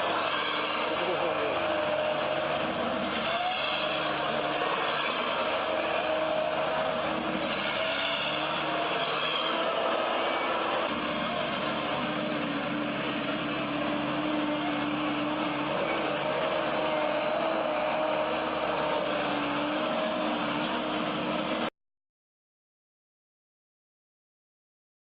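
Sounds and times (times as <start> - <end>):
engine running: 0.0 - 21.7.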